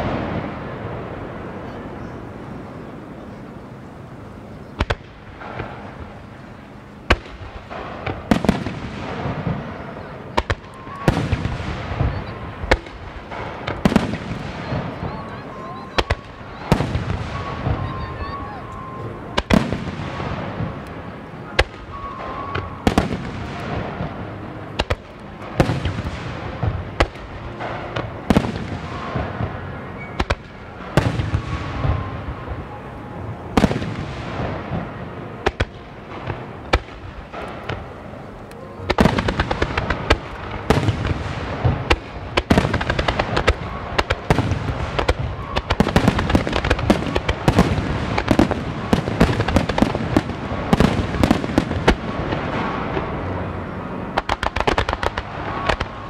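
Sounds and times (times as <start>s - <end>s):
fireworks bursting with bangs: 0.0s - 56.0s
rumbling echo: 0.0s - 56.0s.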